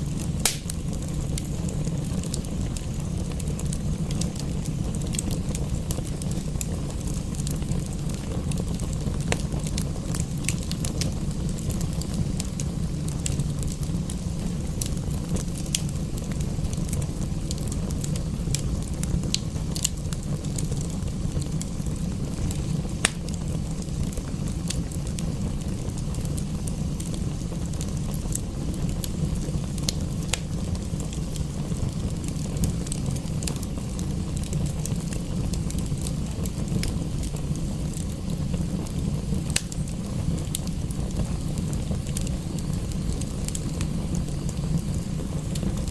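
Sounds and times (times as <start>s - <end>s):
sharp pops of fire: 0.0s - 45.9s
wood fire crackling: 0.0s - 45.9s.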